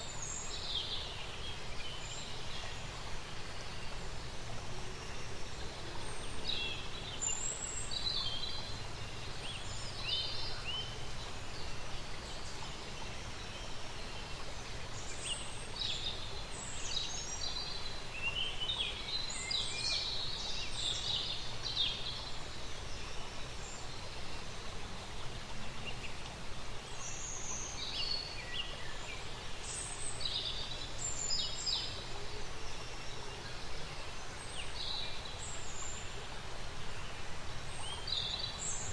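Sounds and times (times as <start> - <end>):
steady nature ambience hiss: 0.0 - 38.9.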